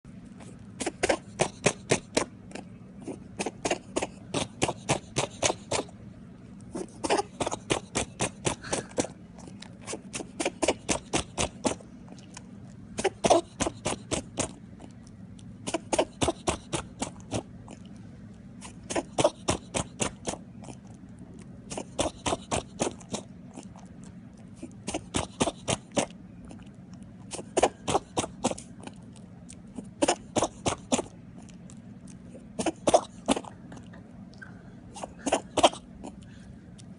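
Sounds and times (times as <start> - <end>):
rabbit sneezing: 0.2 - 6.0, 6.6 - 36.9.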